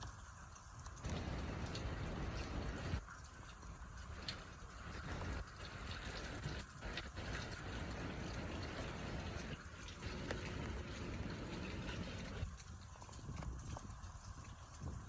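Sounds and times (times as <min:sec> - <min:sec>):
watery rushing of slushy street: 0:00.0 - 0:15.0.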